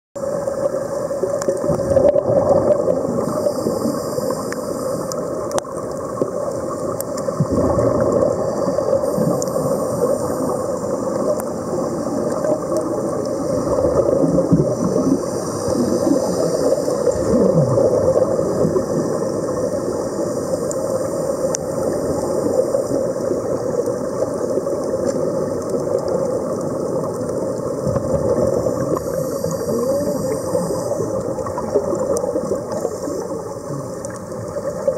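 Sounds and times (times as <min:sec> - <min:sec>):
air bubbles gurgling: 0:00.2 - 0:34.9
muffled underwater rumble: 0:00.2 - 0:34.9.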